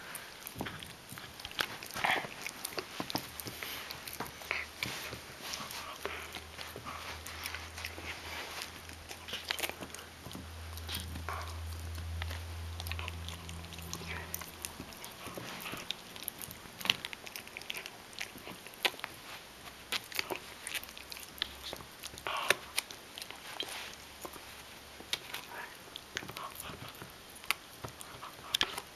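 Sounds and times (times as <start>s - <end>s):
teeth clicking on hard chew: 0.0s - 5.2s, 6.0s - 19.2s, 19.8s - 24.4s, 25.0s - 28.9s
dog gnawing a chew bone: 0.0s - 28.9s.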